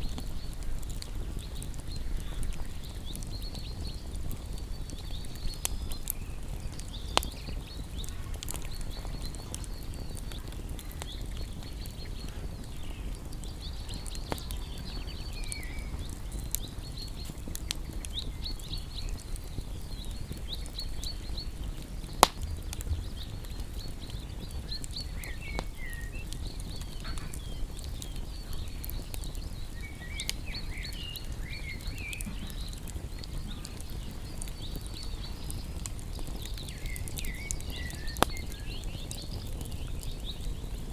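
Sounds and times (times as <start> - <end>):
small birds chirping: 0.0 - 40.9
wood fire crackling and popping: 0.0 - 40.9.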